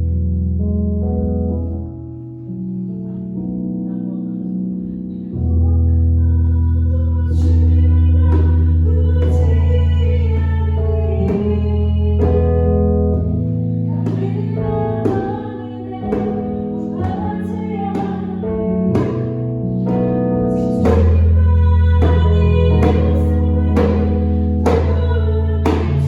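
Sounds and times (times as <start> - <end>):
piano chords: 0.0 - 26.0
person singing: 3.0 - 13.1, 13.8 - 26.0.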